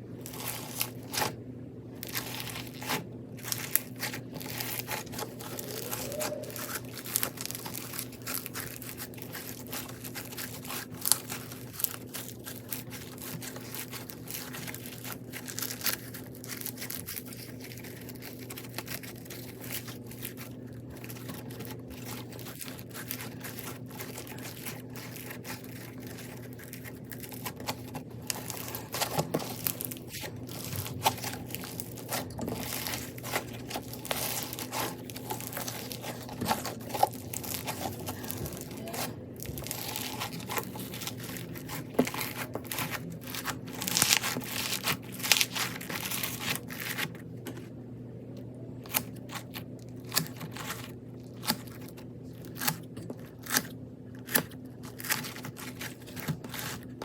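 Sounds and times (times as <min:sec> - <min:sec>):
crunchy slime crackling: 0:00.0 - 0:47.7, 0:48.5 - 0:57.0
faint low hum: 0:00.0 - 0:57.0.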